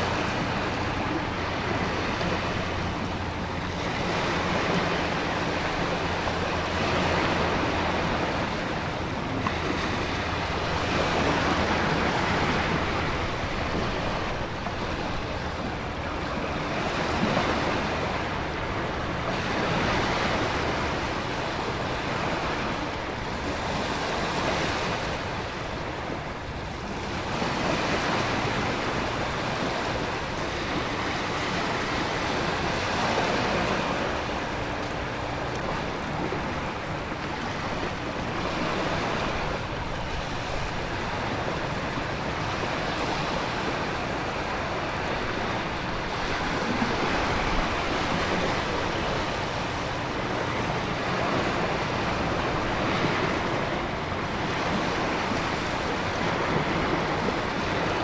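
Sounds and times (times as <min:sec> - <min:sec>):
ocean surf crashing: 0:00.0 - 0:58.0
wind: 0:00.0 - 0:58.0.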